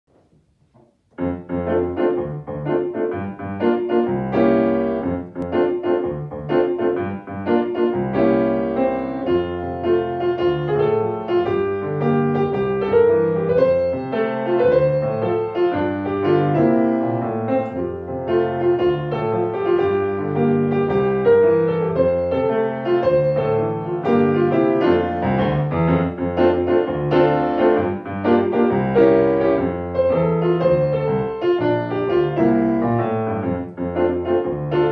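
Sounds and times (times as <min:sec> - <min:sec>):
swing piano piece: 0:00.1 - 0:34.9.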